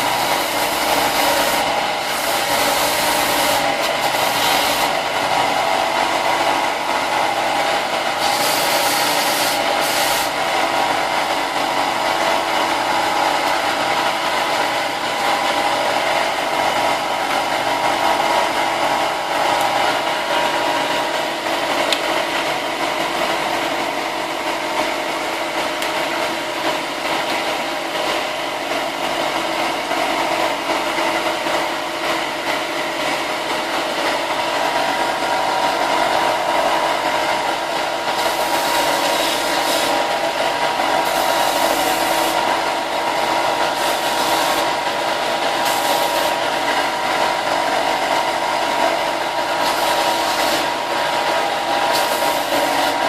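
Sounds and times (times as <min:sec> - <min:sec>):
power sander running: 0:00.0 - 0:53.0.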